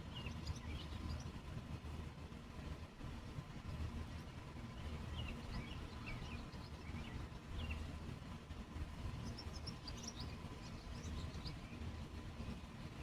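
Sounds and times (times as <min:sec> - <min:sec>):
songbirds chirping: 0:00.0 - 0:01.6, 0:04.1 - 0:13.0.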